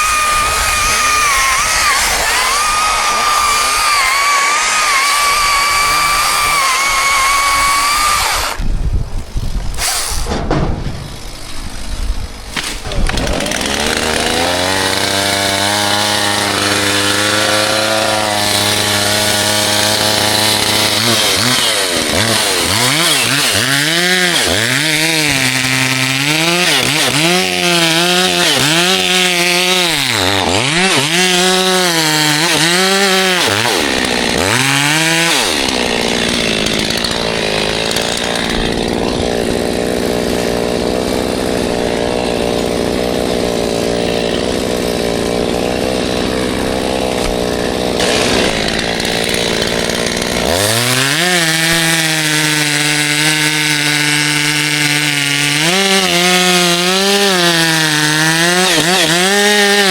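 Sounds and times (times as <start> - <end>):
chainsaw engine revving: 0.0 - 8.7, 9.7 - 59.9.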